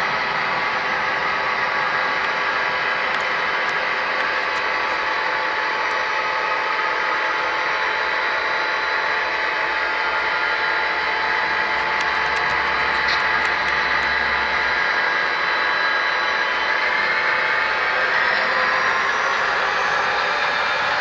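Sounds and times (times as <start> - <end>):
model train running hum: 0.0 - 21.0.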